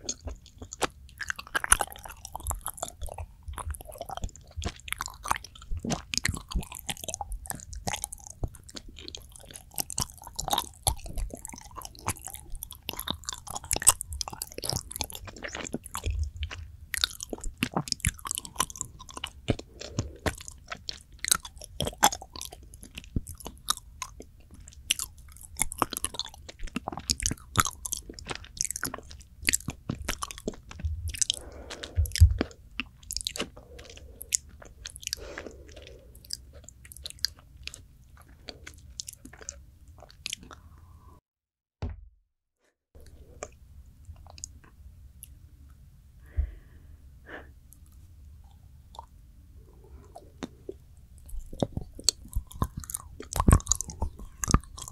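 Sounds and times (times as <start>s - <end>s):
close-up wet chewing: 0.0s - 40.9s, 43.0s - 45.4s, 46.2s - 54.9s.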